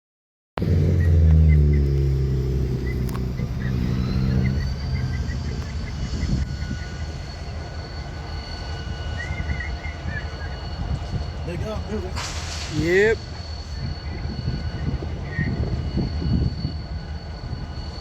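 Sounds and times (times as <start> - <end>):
high steady whine: 0.6 - 18.0
locomotive engines passing: 0.6 - 18.0.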